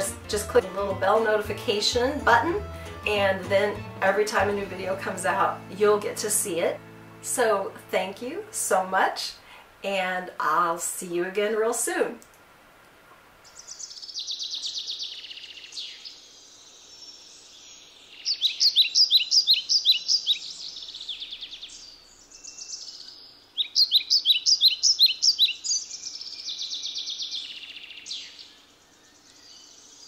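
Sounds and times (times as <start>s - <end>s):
songbird chirps and trills: 0.0s - 10.1s, 13.4s - 30.0s.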